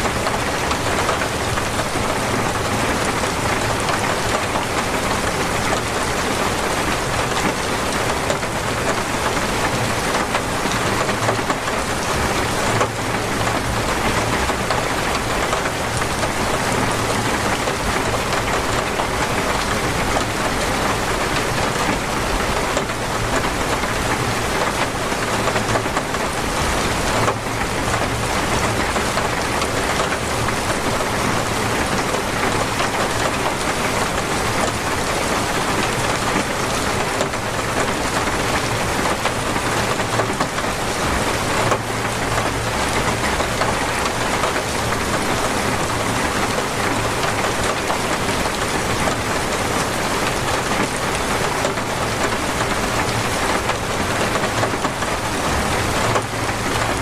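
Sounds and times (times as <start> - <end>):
torrential rain hissing: 0.0 - 57.0.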